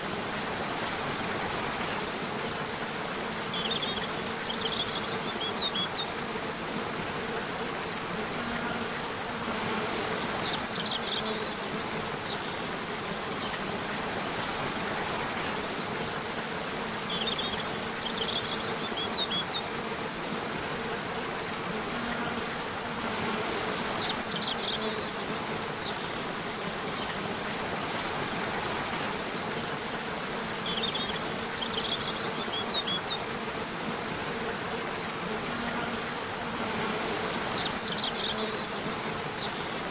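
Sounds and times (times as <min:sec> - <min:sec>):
steady rushing hiss: 0:00.0 - 0:39.9.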